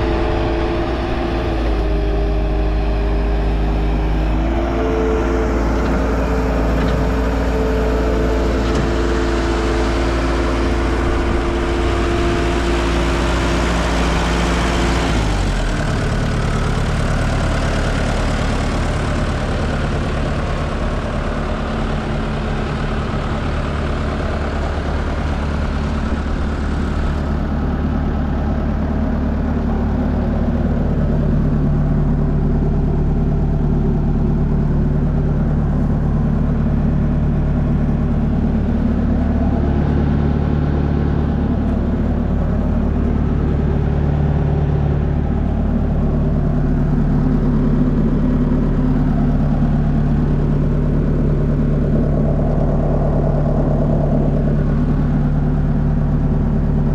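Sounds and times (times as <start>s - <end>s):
diesel engine running steadily: 0.0s - 56.9s.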